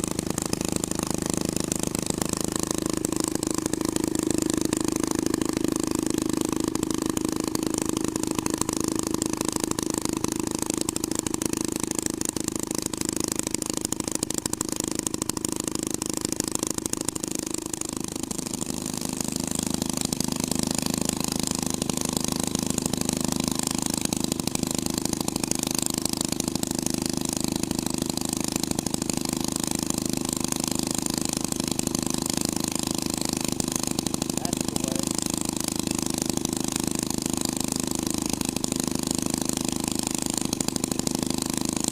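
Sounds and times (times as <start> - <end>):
engines idling: 0.0 - 41.9.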